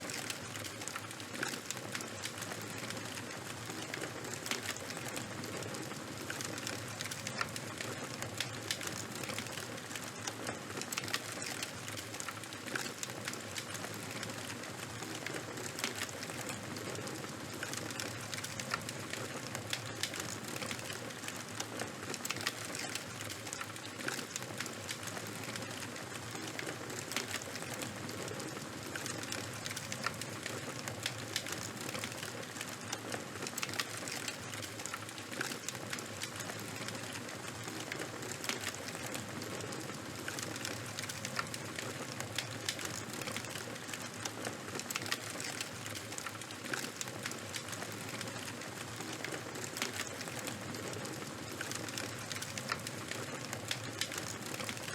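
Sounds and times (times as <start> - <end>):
charcoal fire crackling: 0.0 - 54.9.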